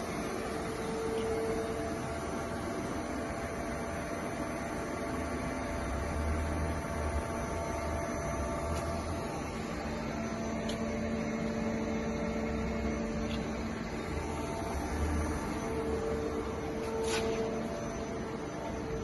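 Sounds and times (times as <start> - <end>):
machine hum with whine tones: 0.0 - 19.0.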